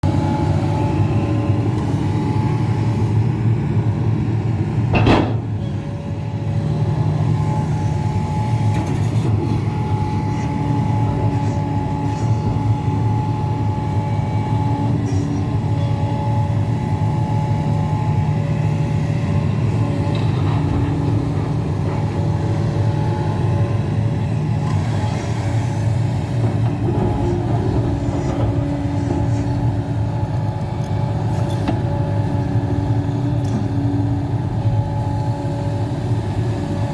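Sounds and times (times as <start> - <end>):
excavator diesel engine drone: 0.0 - 36.9.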